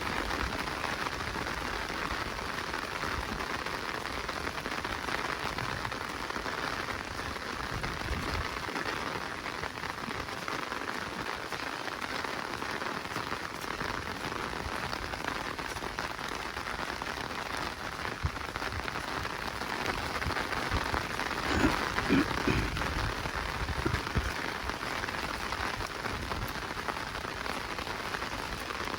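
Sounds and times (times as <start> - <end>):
rain falling in a forest: 0.0 - 28.9.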